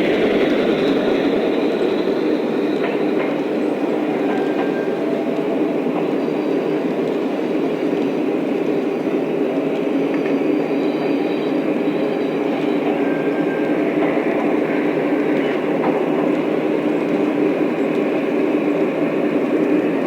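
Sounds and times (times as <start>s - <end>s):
model train rumbling on track: 0.0s - 20.0s.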